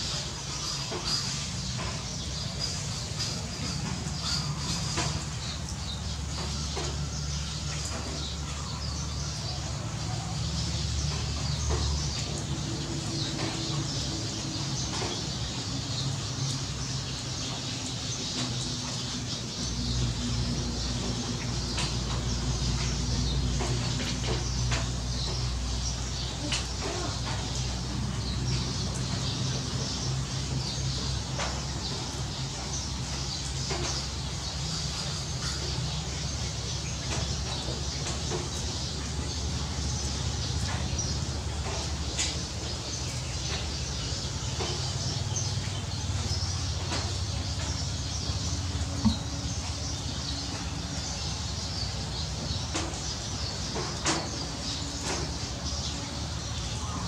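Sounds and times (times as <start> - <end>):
water streaming from roof edge: 0.0 - 57.0.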